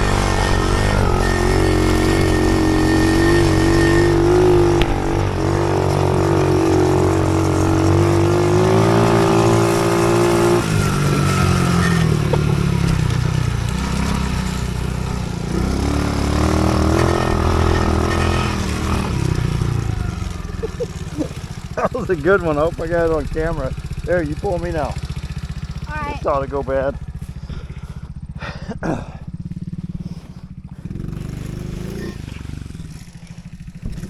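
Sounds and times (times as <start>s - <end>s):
small engine running under throttle: 0.0s - 34.0s.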